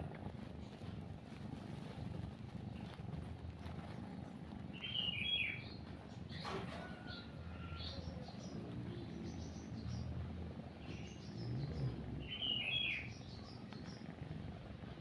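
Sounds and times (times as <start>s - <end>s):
cat purring: 0.0s - 15.0s
small birds chirping: 0.5s - 6.5s, 7.1s - 15.0s.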